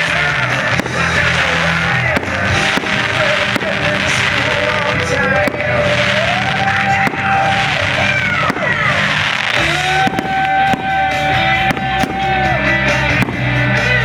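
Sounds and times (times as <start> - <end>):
fireworks hissing and crackling: 0.0 - 14.0
music with gliding notes: 0.0 - 14.0.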